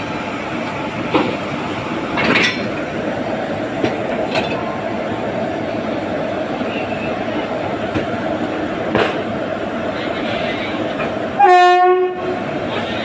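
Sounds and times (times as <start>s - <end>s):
electric locomotive humming: 0.0s - 13.0s.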